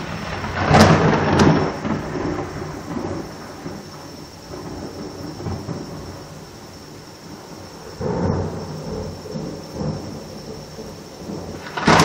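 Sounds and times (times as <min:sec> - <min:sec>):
rain falling: 0:00.0 - 0:12.0
thunderclap cracks and rumbling: 0:00.0 - 0:12.0.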